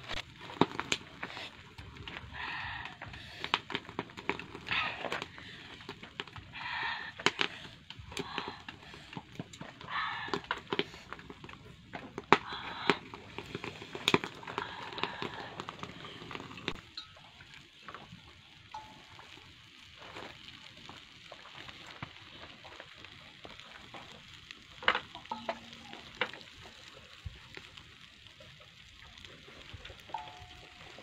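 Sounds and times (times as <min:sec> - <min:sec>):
charcoal crackling and snapping: 0:00.0 - 0:31.0.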